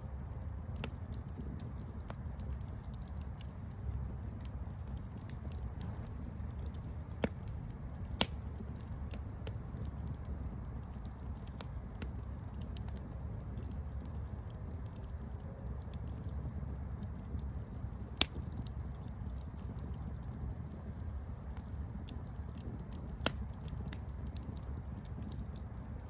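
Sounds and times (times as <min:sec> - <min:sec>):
campfire crackling: 0:00.0 - 0:26.0
sharp fire pops: 0:00.2 - 0:15.2, 0:15.8 - 0:25.9.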